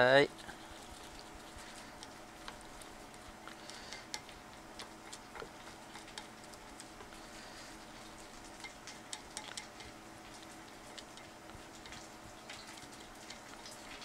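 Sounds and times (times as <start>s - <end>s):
chopsticks stirring in glass bowl: 0.0s - 14.0s
faint steady hum: 0.0s - 14.0s.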